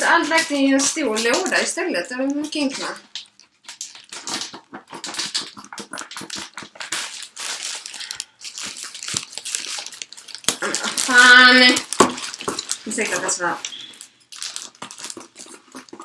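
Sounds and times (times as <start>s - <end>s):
cardboard box crinkling and rustling: 3.1s - 16.0s.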